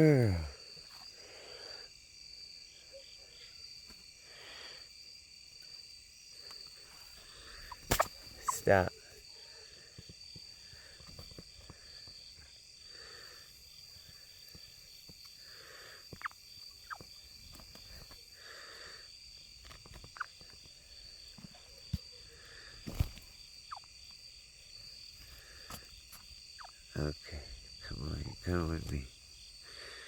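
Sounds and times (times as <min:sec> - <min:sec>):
crickets and insects trilling: 0:00.0 - 0:30.0.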